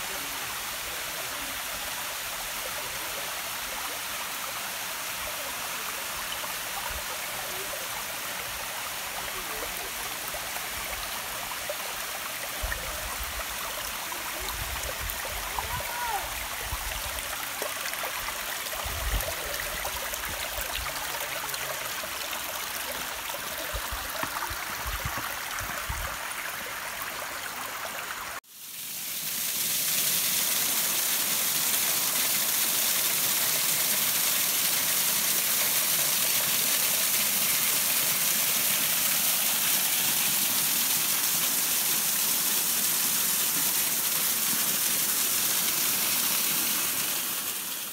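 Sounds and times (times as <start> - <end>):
waterfall water rushing: 0.0 - 47.9.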